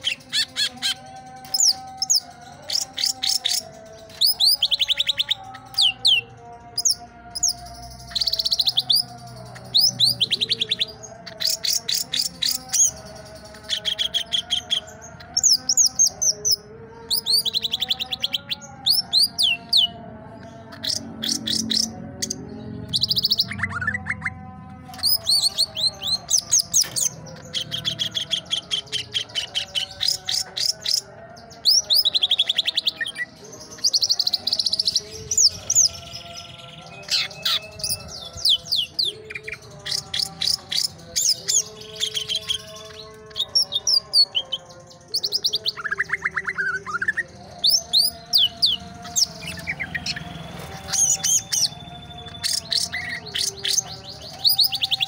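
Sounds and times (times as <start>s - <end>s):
bird chirping and trilling: 0.0s - 55.0s.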